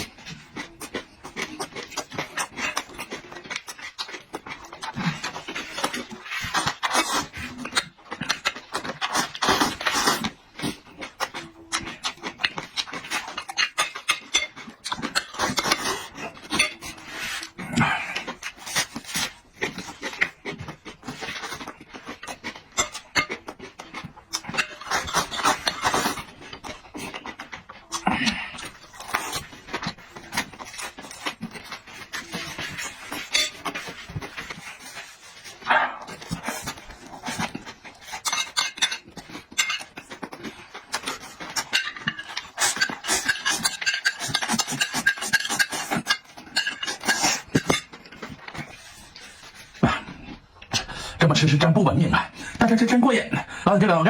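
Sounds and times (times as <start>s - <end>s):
person chewing and lip smacking: 0.0s - 51.2s.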